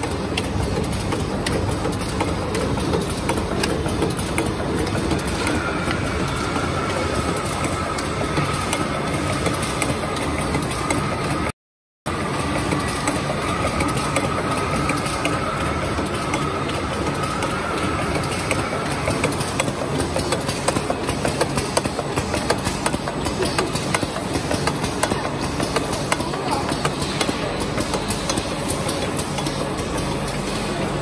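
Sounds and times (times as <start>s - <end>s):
machine clattering with rapid clicks: 0.0s - 11.5s, 12.1s - 31.0s.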